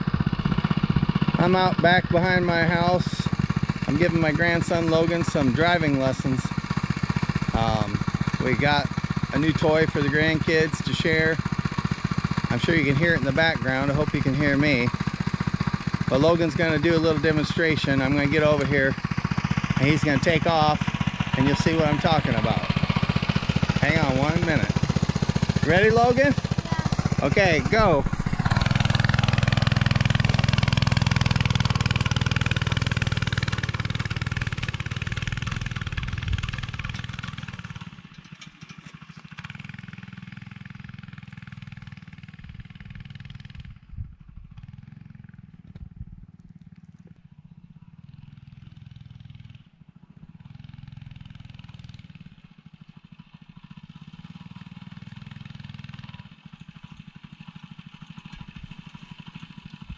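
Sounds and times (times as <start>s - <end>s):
minibike engine riding off: 0.0s - 59.9s.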